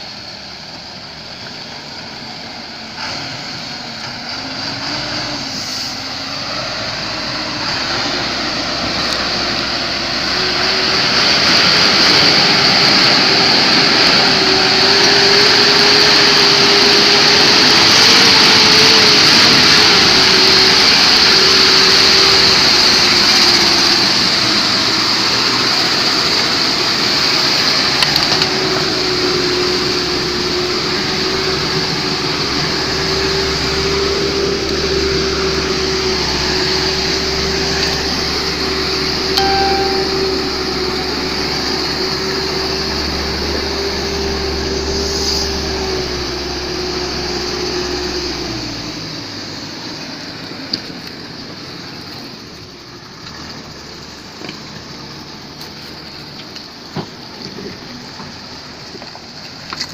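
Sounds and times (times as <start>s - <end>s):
road and rain hiss: 0.0s - 59.9s
vehicle engine hum: 0.0s - 59.9s.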